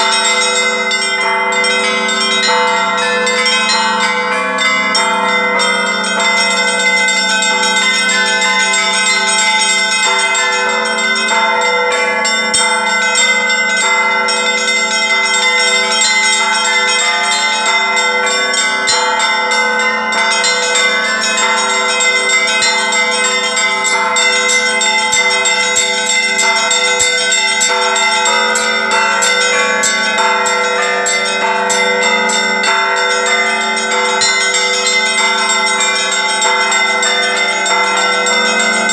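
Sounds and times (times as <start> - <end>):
deep bell humming: 0.0 - 38.9
small church bells ringing: 0.0 - 38.9.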